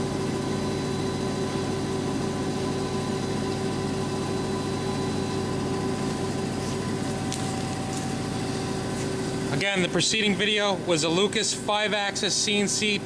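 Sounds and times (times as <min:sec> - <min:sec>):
boring mill machine humming: 0:00.0 - 0:13.0.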